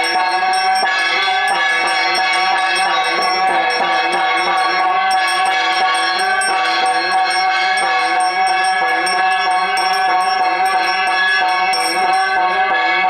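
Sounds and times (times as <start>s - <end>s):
brass hand bell ringing: 0.0s - 13.0s.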